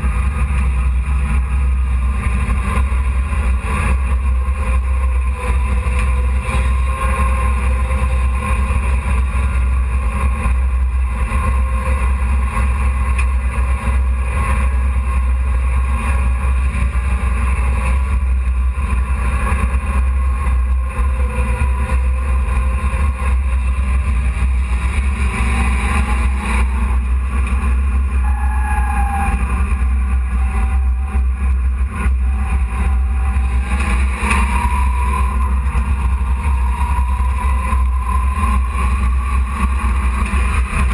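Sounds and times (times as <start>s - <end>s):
race truck engine drone: 0.0s - 40.9s.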